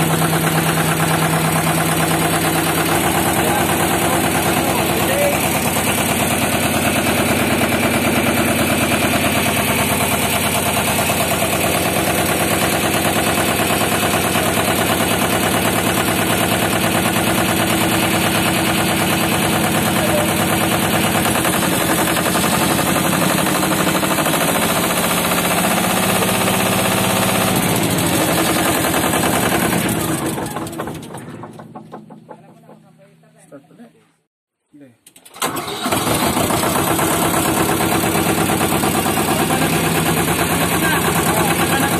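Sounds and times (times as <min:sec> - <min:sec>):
diesel engine running: 0:00.0 - 0:33.2, 0:35.4 - 0:41.9.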